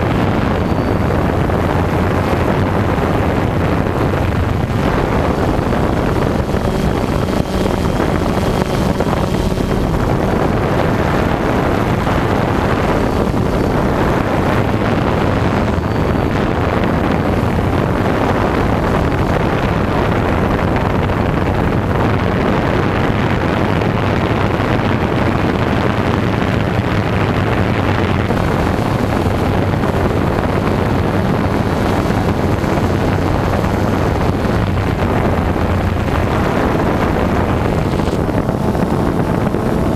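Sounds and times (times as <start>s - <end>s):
low hum: 0.0s - 39.9s
quadcopter propellers running: 0.0s - 39.9s
wind rush on microphone: 0.0s - 39.9s.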